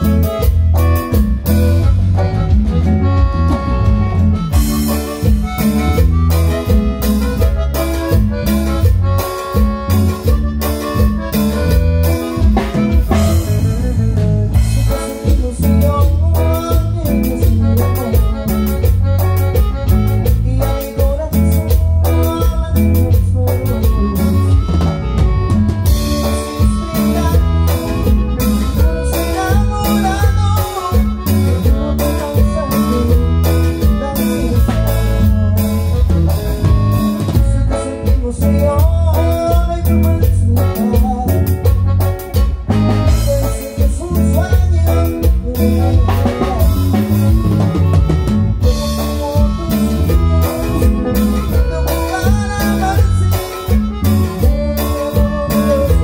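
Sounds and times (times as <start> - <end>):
live band playing dance music: 0.0 - 56.0.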